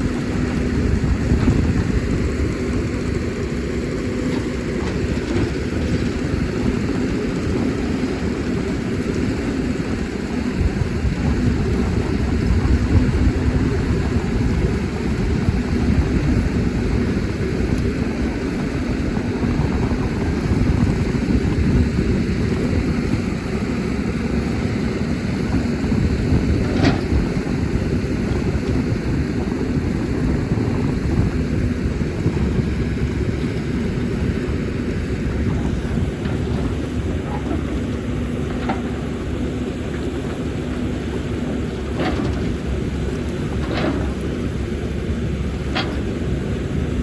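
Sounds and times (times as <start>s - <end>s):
excavator diesel engine rumble: 0.0s - 47.0s.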